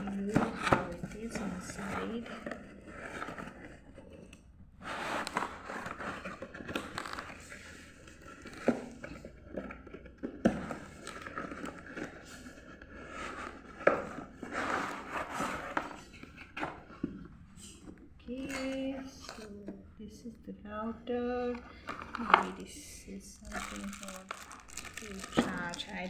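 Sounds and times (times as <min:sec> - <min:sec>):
packaging rustling and crinkling: 0:00.0 - 0:19.7, 0:21.3 - 0:26.0.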